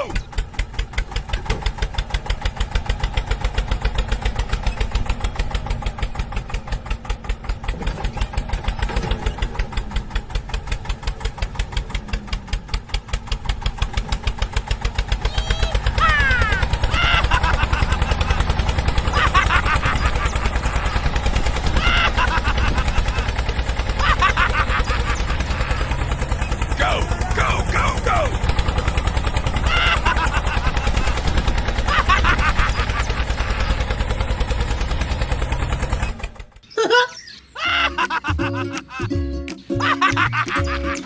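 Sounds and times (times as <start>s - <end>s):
tractor engine chugging: 0.0s - 41.0s.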